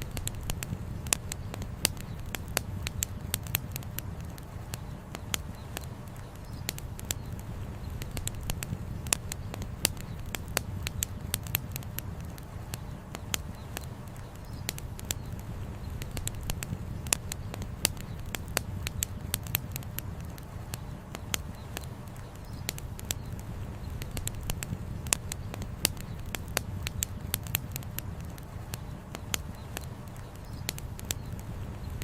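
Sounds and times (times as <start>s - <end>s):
campfire crackling and popping: 0.0s - 32.0s
steady low rumble: 0.0s - 32.0s.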